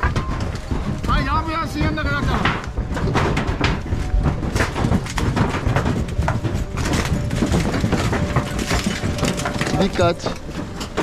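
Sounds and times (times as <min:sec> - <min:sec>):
footsteps on rubble: 0:00.0 - 0:11.0.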